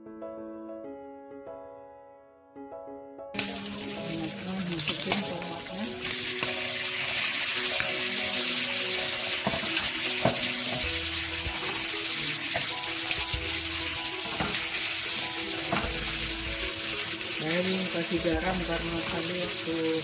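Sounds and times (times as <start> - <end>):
food sizzling in a frying pan: 3.4 - 20.0.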